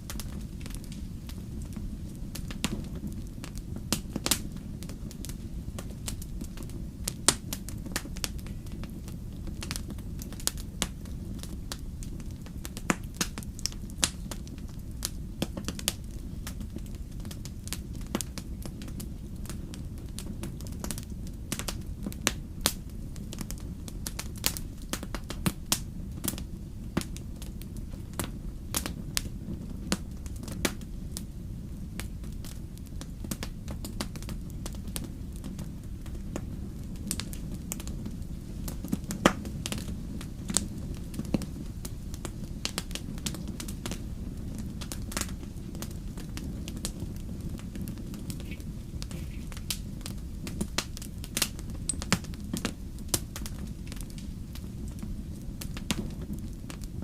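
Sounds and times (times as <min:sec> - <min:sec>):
fire crackling and popping: 0:00.0 - 0:57.0
low rumble of flames: 0:00.0 - 0:57.0.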